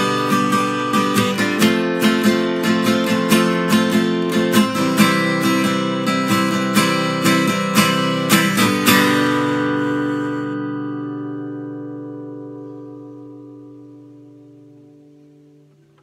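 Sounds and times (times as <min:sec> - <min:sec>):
guitar strumming: 0:00.0 - 0:16.0.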